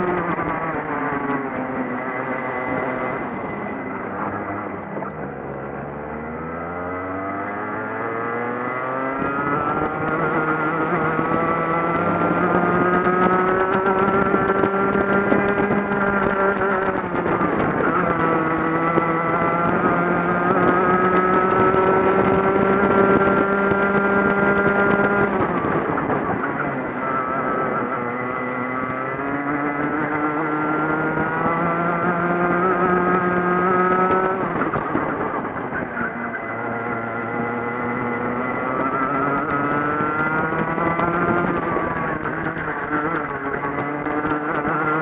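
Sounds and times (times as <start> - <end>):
kart engine revving: 0.0 - 45.0.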